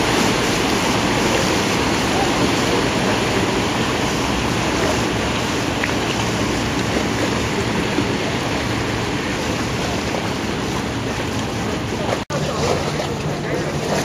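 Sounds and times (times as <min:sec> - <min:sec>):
rushing churned water: 0:00.0 - 0:14.0.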